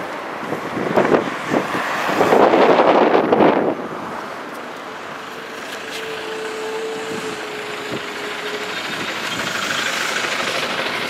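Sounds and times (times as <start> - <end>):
traffic engines and road noise: 0.0 - 11.0.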